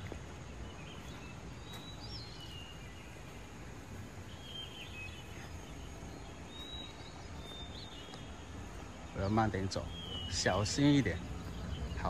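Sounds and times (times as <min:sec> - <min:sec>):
high bird chirps: 0:00.0 - 0:12.0.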